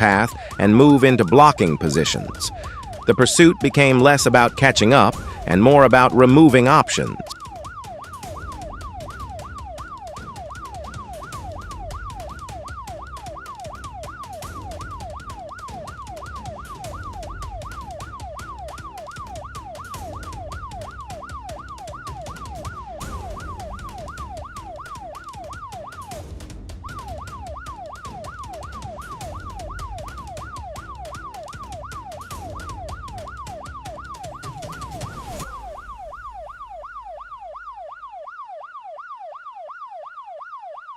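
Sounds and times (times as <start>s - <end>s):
engine and road rumble: 0.0s - 0.7s, 1.7s - 6.2s, 7.2s - 38.1s
police siren yelping: 0.0s - 40.9s.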